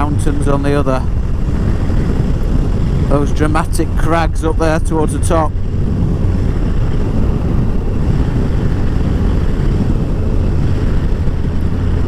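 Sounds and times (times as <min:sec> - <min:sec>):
motorcycle engine cruising: 0:00.0 - 0:12.0
wind rush: 0:00.0 - 0:12.0.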